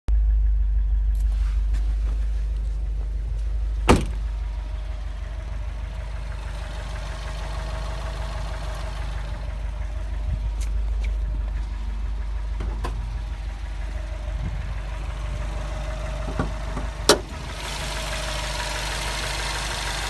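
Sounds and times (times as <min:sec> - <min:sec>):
engine running with knocking: 0:00.2 - 0:20.0.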